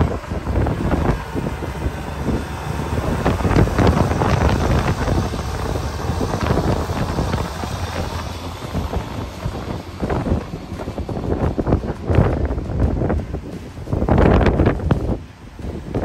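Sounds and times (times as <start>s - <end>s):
blizzard wind gusting: 0.0s - 16.0s.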